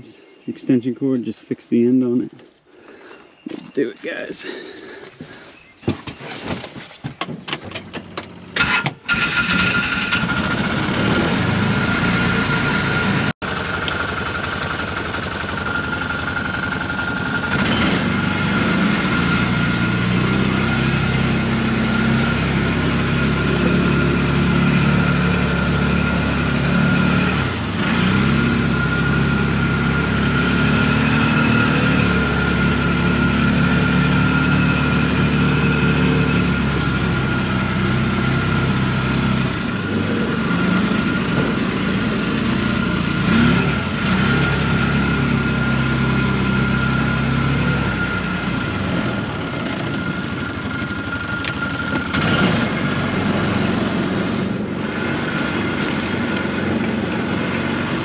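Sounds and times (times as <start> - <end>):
engine starting and running: 3.0 - 58.0.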